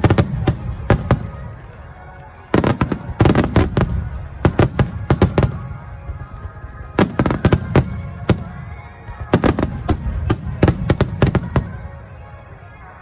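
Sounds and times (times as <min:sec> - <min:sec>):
fireworks bangs and crackles: 0:00.0 - 0:12.4.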